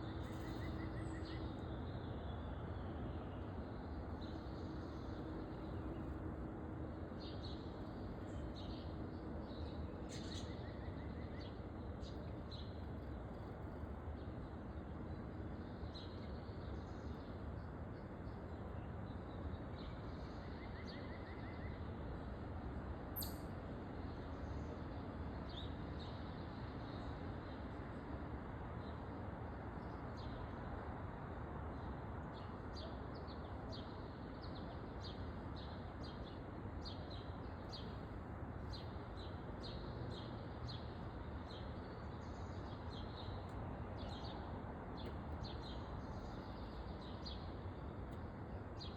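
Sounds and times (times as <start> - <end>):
songbirds chirping: 0.0 - 48.9.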